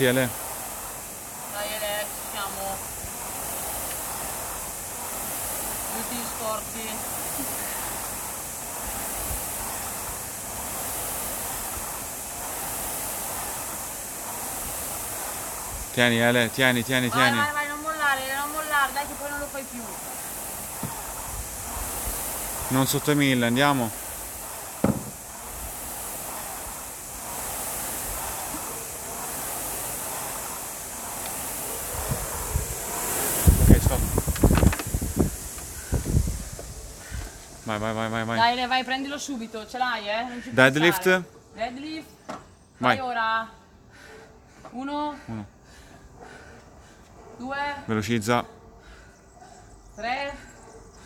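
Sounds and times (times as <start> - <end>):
rowing machine flywheel whooshing: 0.0 - 51.0.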